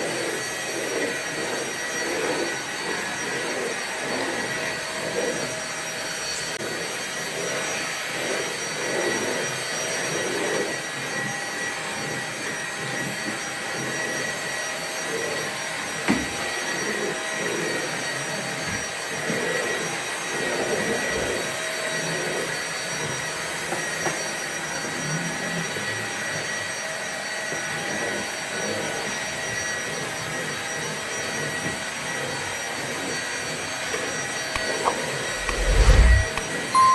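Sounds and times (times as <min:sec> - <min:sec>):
vacuum cleaner running: 0:00.0 - 0:36.9.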